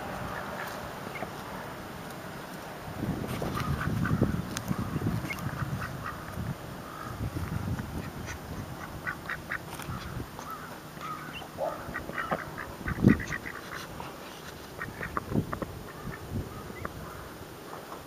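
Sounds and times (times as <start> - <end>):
ducks quacking: 0.0 - 1.4, 3.5 - 7.2, 7.9 - 17.2.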